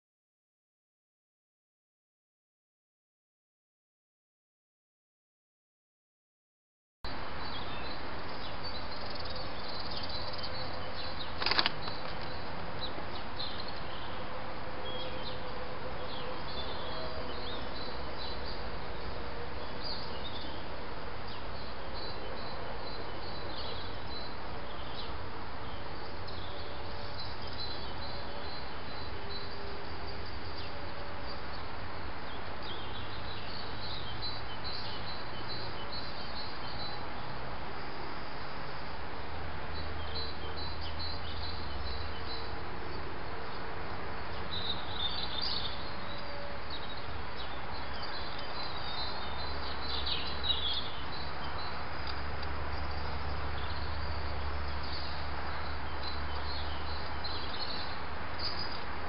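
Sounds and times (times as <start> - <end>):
garden birds chirping: 7.1 - 59.0.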